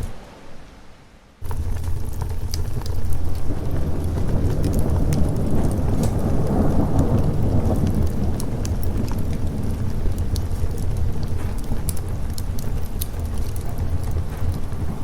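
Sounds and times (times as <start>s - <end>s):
fireplace fire crackling: 0.0s - 15.0s
rolling thunder: 0.0s - 15.0s
steady rain: 0.0s - 15.0s.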